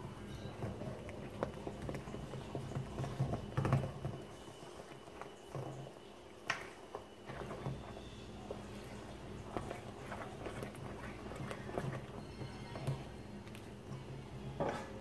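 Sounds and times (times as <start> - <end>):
batter squelching: 0.0 - 15.0.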